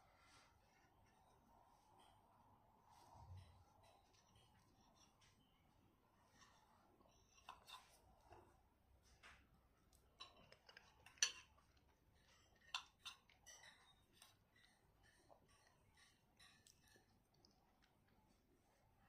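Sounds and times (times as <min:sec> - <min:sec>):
eating clicks and scrapes: 0:03.2 - 0:19.0.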